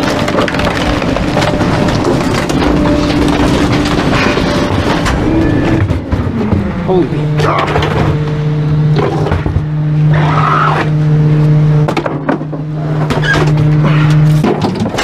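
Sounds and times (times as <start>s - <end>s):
trash truck engine humming: 0.0s - 15.0s.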